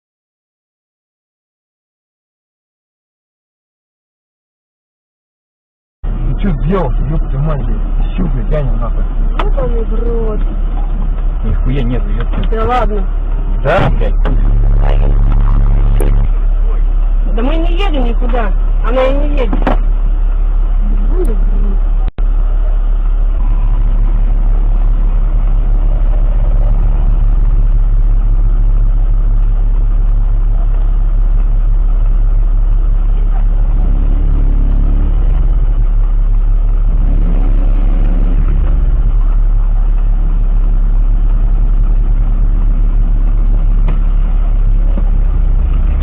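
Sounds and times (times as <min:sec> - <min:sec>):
car engine idling: 0:06.0 - 0:46.0
engine note rising and falling: 0:06.0 - 0:46.0.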